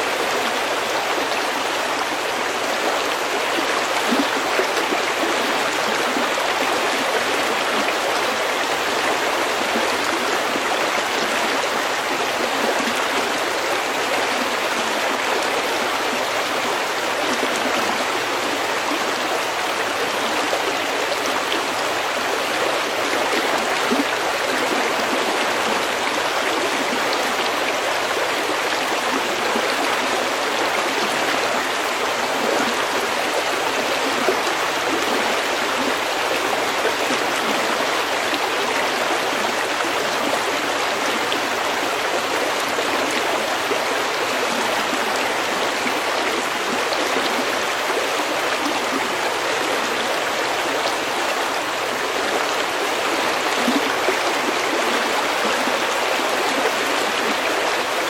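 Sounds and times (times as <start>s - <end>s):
stream running over stones: 0.0s - 58.0s.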